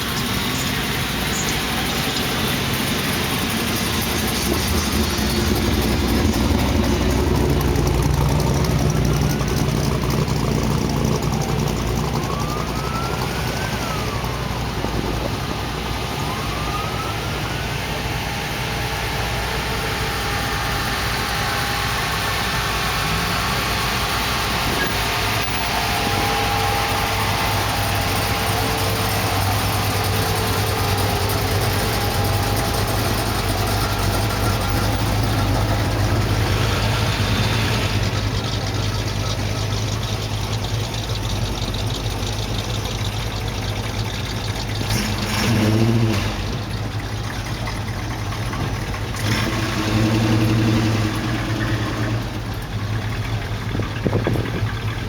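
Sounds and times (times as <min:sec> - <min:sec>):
car engines idling: 0:00.0 - 0:55.0.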